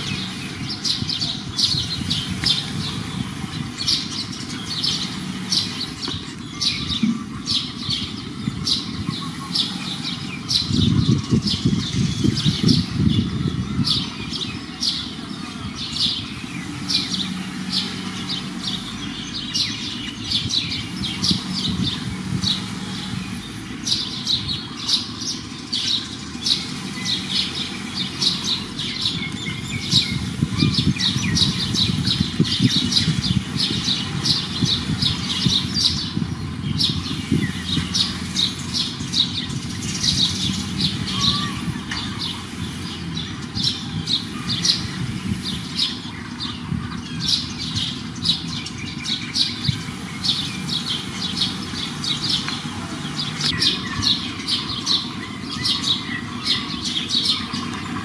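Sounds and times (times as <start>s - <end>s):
low outdoor rumble: 0.0s - 58.0s
small birds chirping: 0.0s - 58.0s.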